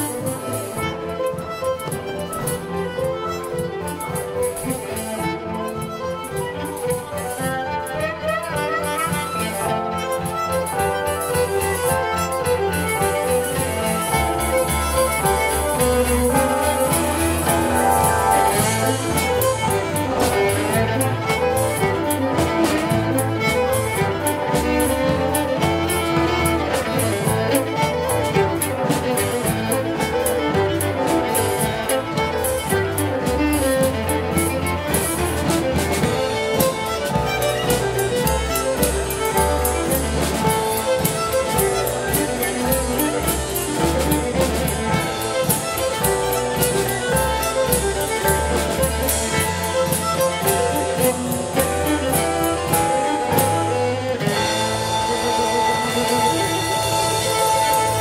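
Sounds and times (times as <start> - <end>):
fiddle-led dance band playing: 0.0 - 58.0.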